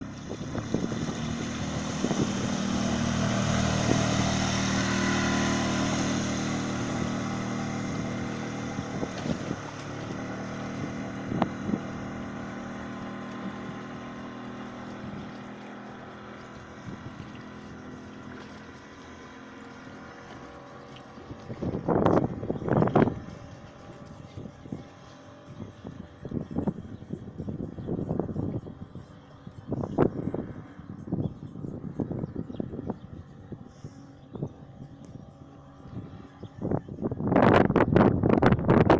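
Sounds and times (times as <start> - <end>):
wind noise on microphone: 0.0 - 19.3, 20.9 - 38.9
outboard motor running: 0.0 - 38.9.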